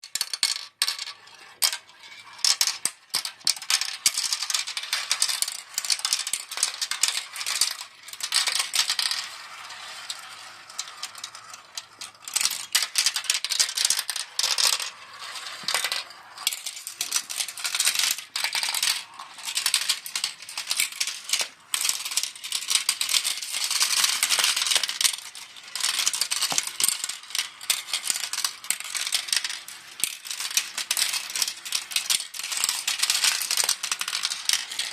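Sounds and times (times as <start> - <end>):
marbles rattling down marble run: 0.0 - 34.9.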